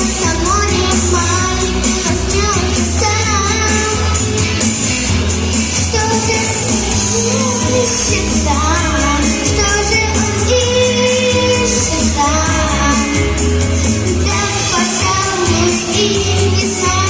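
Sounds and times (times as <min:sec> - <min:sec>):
backing track with bass beat: 0:00.0 - 0:17.0
girl singing pop song: 0:00.0 - 0:17.0.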